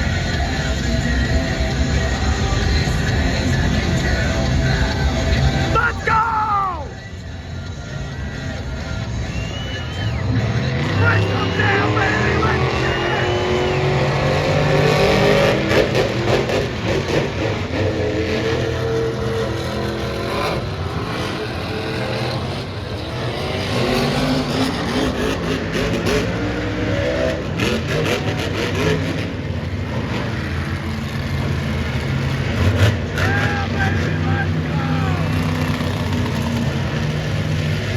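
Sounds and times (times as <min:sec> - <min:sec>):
monster truck engines revving: 0:00.0 - 0:37.9.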